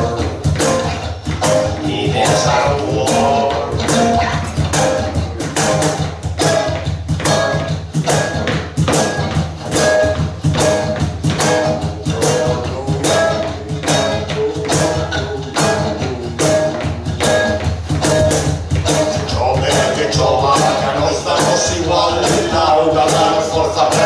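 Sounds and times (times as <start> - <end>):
steady drum beat: 0.0 - 24.0
sustained bass line: 0.0 - 24.0.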